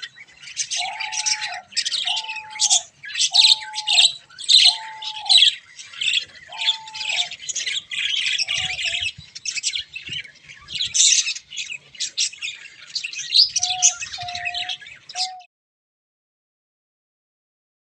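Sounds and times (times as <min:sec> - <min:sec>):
budgerigars chirping: 0:00.0 - 0:15.4.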